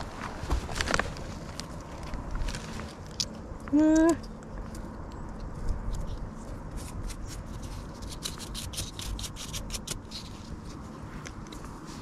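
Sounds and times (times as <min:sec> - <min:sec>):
dry leaves and twigs crackling: 0:00.0 - 0:12.0.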